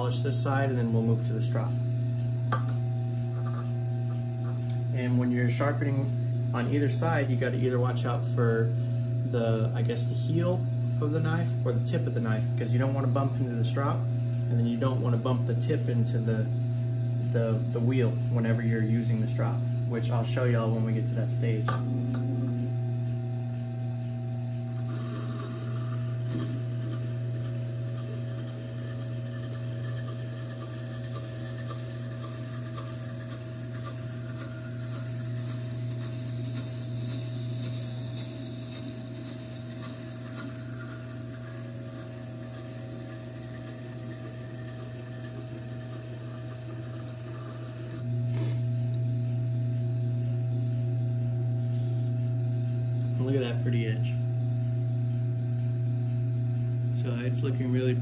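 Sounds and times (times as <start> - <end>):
sharpening machine motor hum: 0.0 - 58.0.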